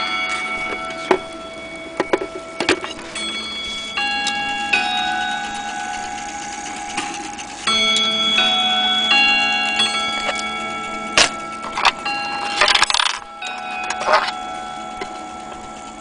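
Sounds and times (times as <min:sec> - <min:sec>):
mantle clock chiming: 0:00.0 - 0:16.0.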